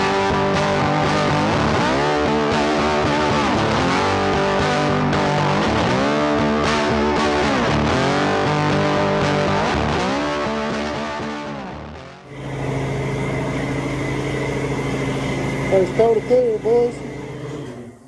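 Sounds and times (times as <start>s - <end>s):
distorted electric guitar music: 0.0s - 18.0s.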